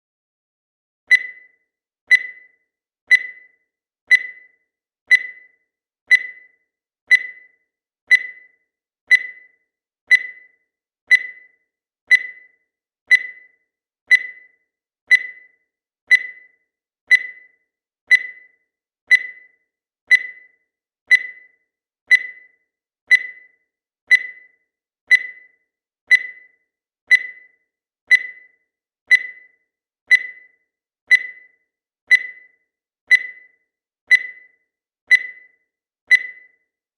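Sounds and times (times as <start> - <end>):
digital timer beeping: 1.1 - 36.8.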